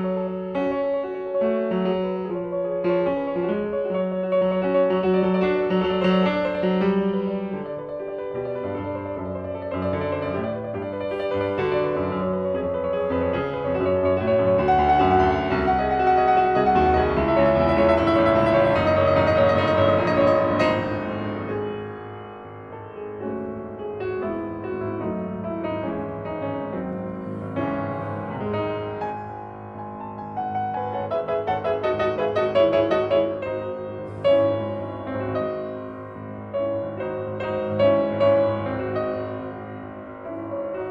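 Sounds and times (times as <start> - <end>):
piano music: 0.0 - 40.9.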